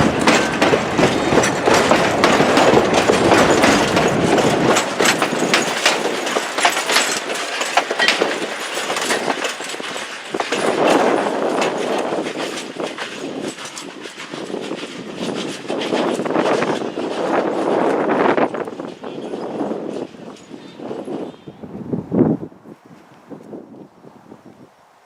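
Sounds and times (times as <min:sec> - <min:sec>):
train wheels clacking on track: 0:00.0 - 0:21.4.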